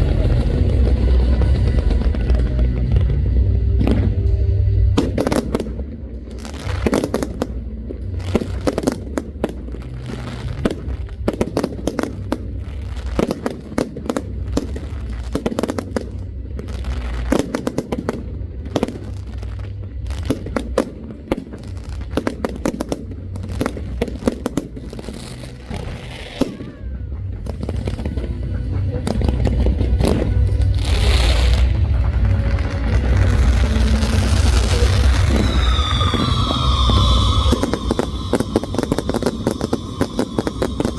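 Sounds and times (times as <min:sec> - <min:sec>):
fireworks bangs and crackles: 0:00.0 - 0:40.9
low rumble: 0:00.0 - 0:40.9.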